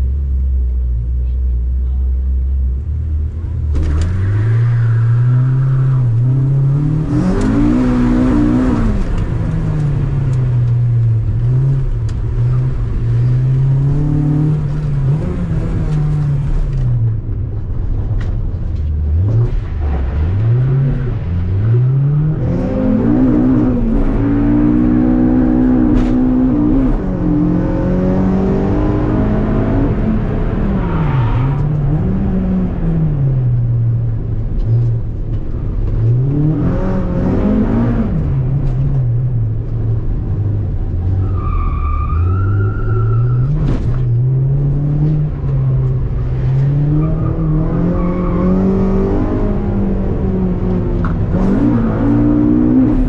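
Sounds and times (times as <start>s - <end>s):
car engine revving: 2.7s - 17.2s, 18.8s - 53.0s.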